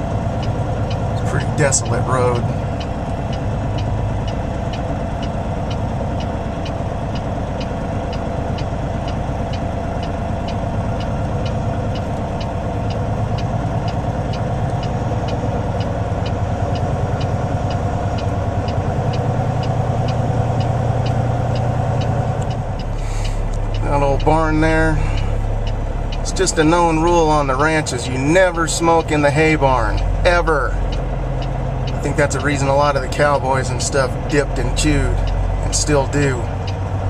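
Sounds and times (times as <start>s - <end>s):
diesel engine idling with ticking: 0.0s - 37.0s.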